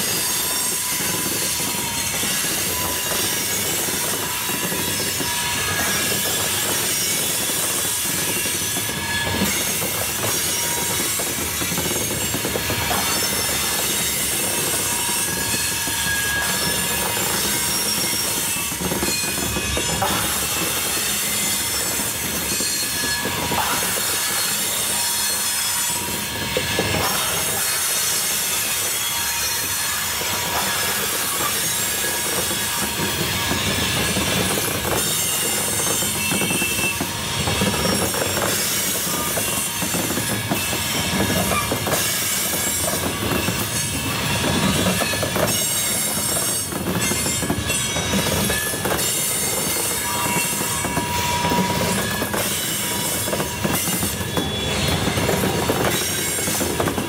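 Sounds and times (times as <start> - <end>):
freight train rolling past: 0.0 - 57.0
wheels clicking over rail joints: 0.0 - 57.0.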